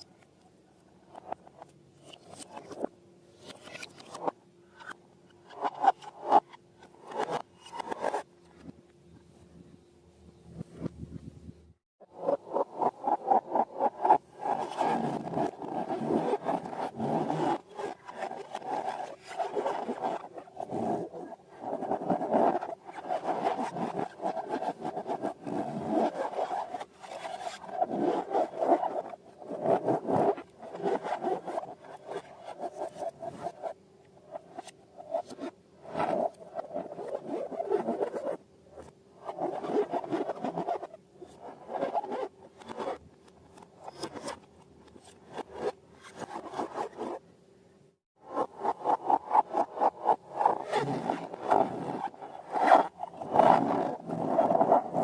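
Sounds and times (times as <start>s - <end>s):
rubber balloons rubbing and squeaking: 1.1s - 8.8s, 12.1s - 47.2s, 48.3s - 55.0s.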